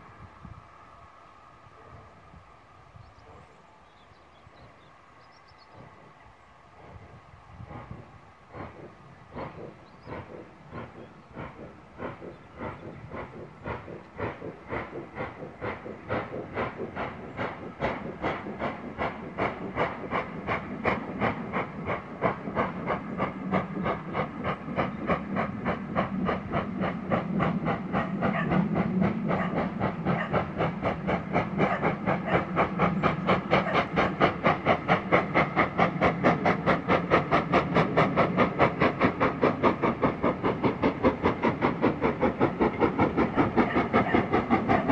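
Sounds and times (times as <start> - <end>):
steam locomotive exhaust beats: 0.0 - 44.9.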